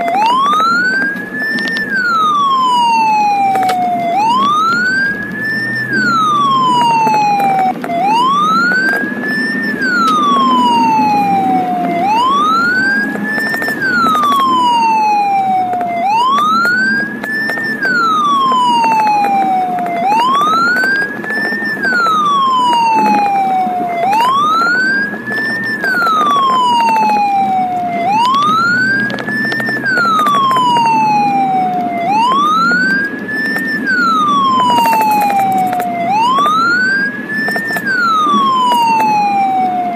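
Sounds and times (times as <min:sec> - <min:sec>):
ambulance siren wailing: 0:00.0 - 0:39.9
engine and road noise: 0:00.0 - 0:39.9.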